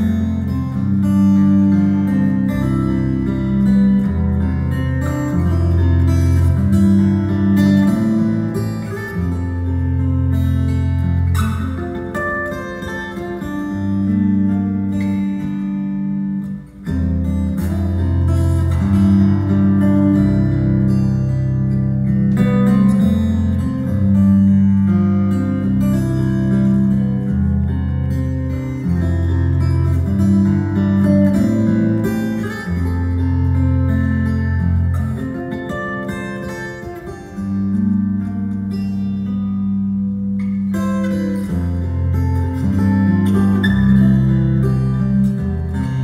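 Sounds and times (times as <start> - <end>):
fingerstyle acoustic guitar: 0.0 - 46.0.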